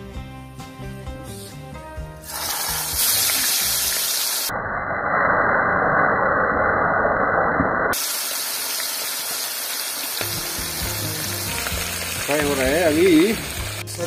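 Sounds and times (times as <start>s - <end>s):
oil sizzling and bubbling: 2.2s - 14.0s.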